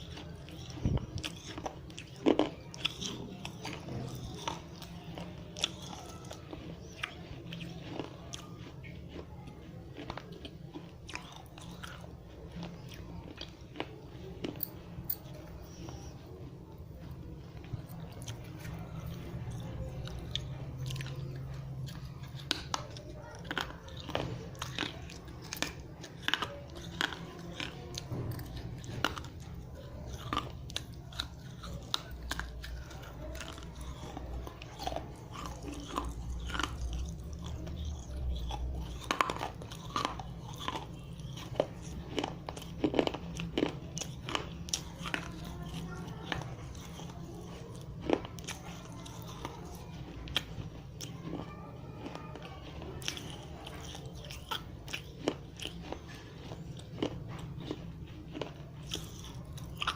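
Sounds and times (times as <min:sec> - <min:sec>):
clay pieces crunching in mouth: 0:00.0 - 0:59.9.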